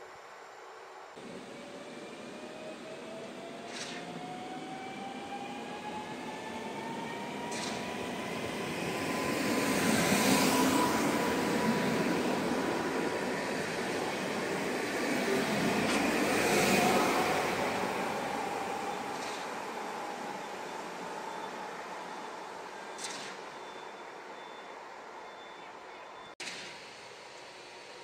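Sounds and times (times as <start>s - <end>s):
electric train motor whine: 0.0s - 25.2s
wheel and rail noise: 0.0s - 28.0s.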